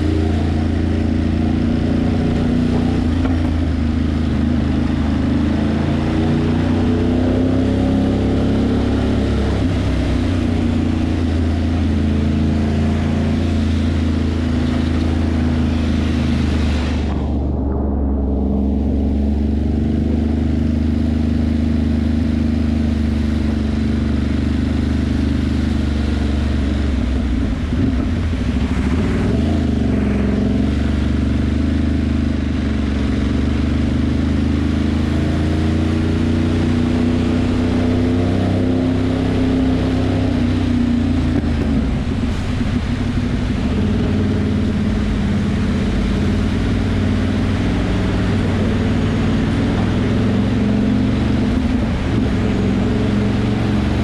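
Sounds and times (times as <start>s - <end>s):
motorcycle engine running: 0.0s - 54.0s
wind and wet road hiss: 0.0s - 54.0s.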